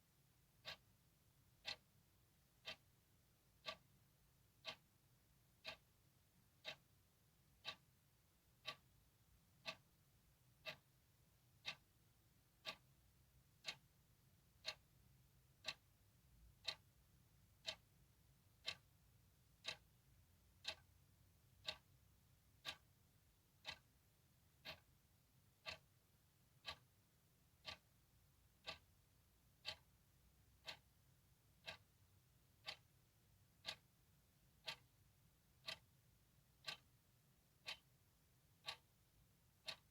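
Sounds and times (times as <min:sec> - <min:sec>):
clock ticking: 0:00.5 - 0:39.9.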